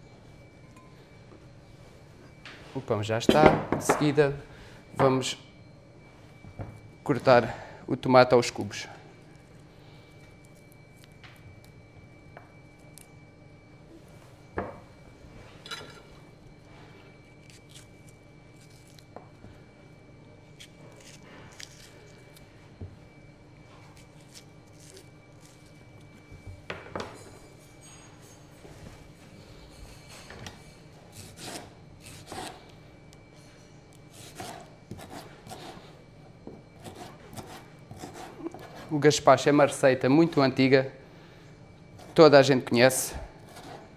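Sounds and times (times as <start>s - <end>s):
faint room hum: 0.0s - 43.9s.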